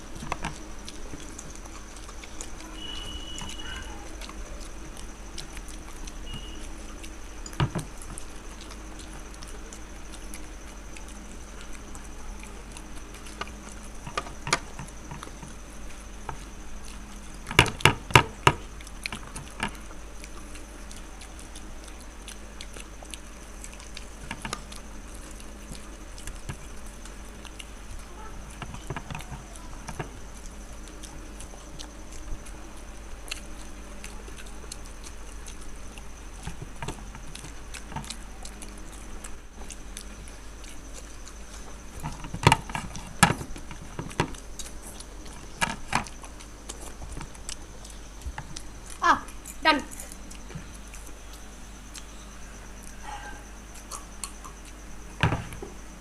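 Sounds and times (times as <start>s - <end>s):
chewing food: 0.0s - 56.0s
steady low hum: 0.0s - 56.0s.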